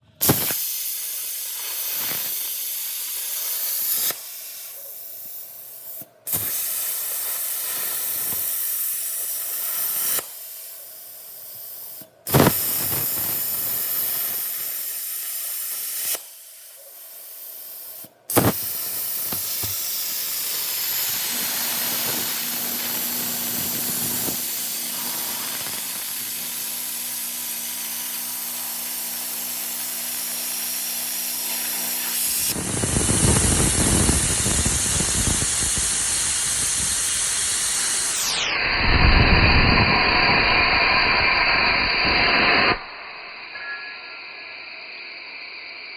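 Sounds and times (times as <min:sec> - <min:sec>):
plasma arc hissing: 0:00.2 - 0:45.9.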